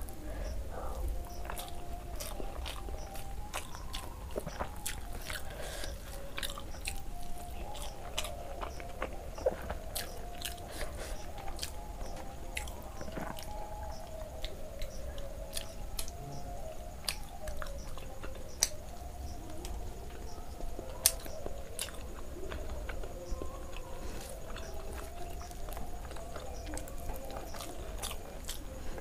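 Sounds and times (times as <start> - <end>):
wet mouth chewing: 0.8 - 16.2, 20.9 - 29.0.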